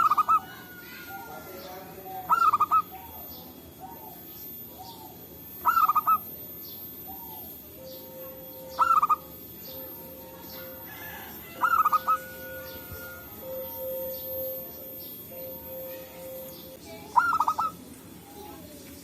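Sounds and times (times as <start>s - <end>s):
dove stuttering cooing: 0.0s - 18.5s
fainter lower dove calls: 0.0s - 18.6s
faint steady tone: 0.0s - 19.0s.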